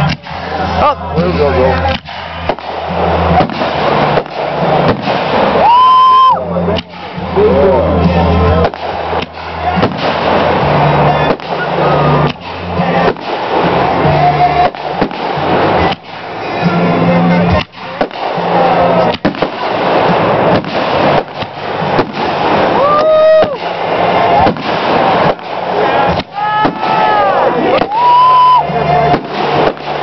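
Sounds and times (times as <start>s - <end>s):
firework bangs: 0.0s - 30.0s
fireworks crackling: 0.0s - 30.0s
firework whistling: 2.0s - 7.3s, 8.6s - 30.0s.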